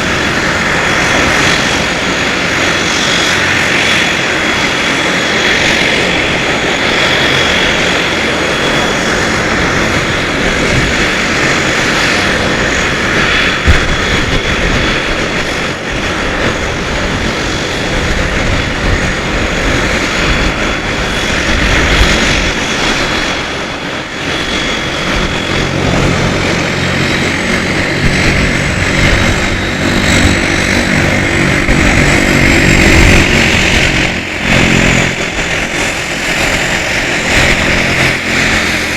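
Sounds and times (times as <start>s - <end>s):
low steady drone: 0.0s - 38.9s
turboprop engines running: 0.0s - 38.9s.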